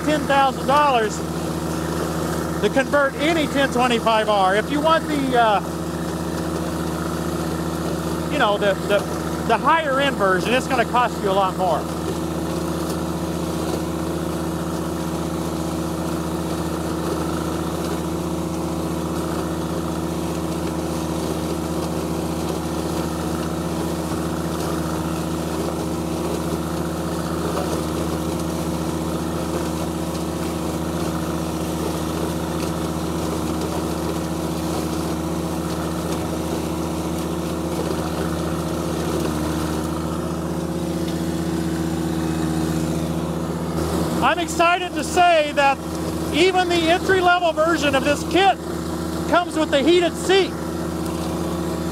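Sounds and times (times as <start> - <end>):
mower cutting dry stalks: 0.0 - 51.9
tractor diesel engine under load: 0.0 - 51.9.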